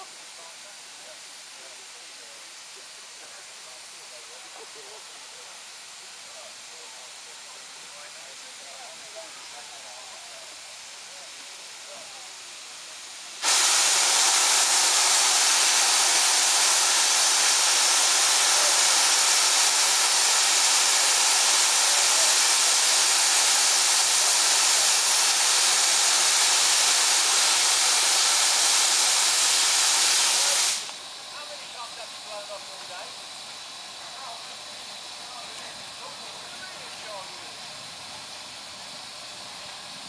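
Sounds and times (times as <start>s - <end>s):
steam locomotive hissing steam: 0.0s - 40.0s.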